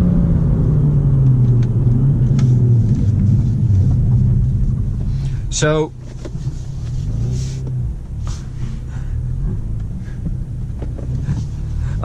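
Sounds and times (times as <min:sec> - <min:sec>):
car engine droning in cabin: 0:00.0 - 0:12.0.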